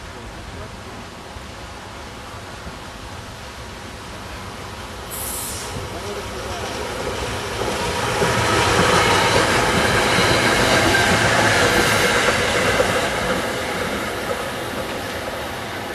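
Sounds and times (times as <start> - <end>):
train rumbling past on rails: 0.1 - 15.9.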